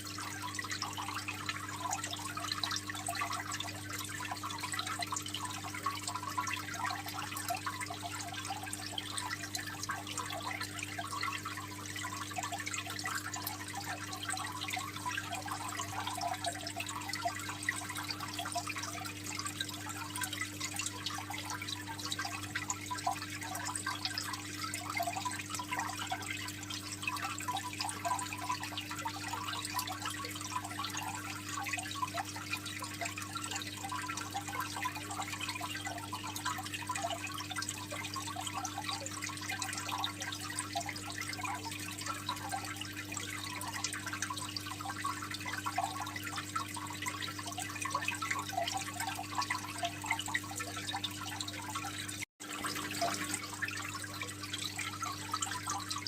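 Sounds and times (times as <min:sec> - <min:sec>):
aquarium water trickling and splashing: 0:00.0 - 0:56.0.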